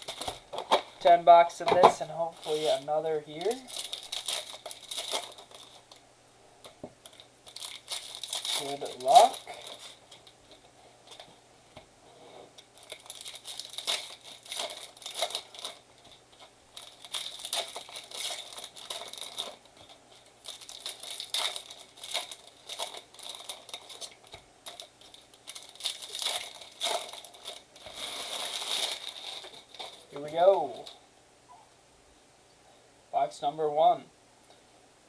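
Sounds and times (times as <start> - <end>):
plastic wrapping crinkling and tearing: 0.0 - 6.0, 6.6 - 11.4, 12.6 - 31.0.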